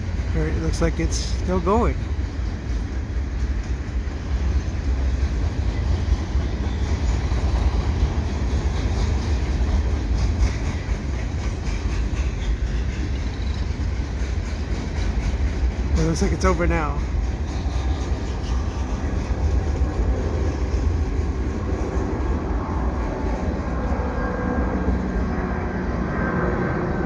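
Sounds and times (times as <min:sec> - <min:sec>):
freight train wheels rumbling on rail: 0:00.0 - 0:27.0.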